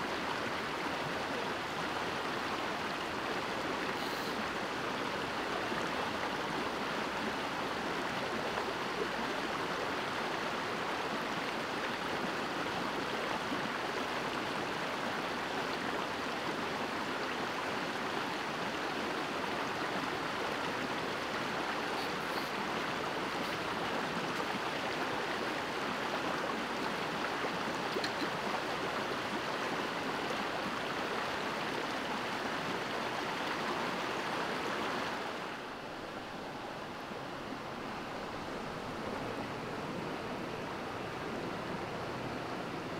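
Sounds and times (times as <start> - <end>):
stream flowing over stones: 0.0 - 42.9.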